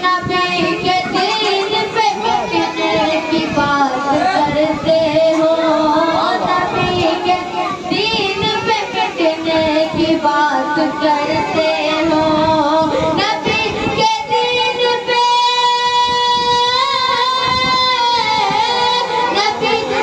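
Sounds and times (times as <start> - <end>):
boy singing unaccompanied: 0.0 - 20.0.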